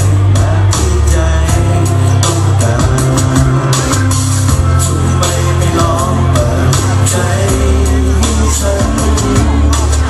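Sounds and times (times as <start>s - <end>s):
man singing into microphone: 0.0s - 10.0s
pop backing music: 0.0s - 10.0s.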